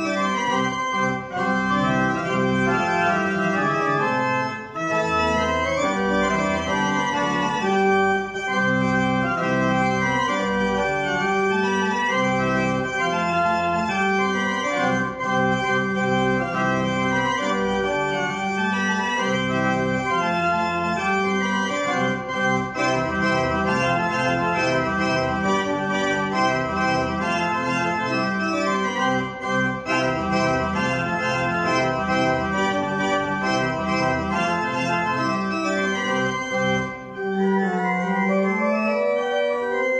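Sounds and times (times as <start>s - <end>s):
pipe organ dance piece: 0.0s - 39.9s.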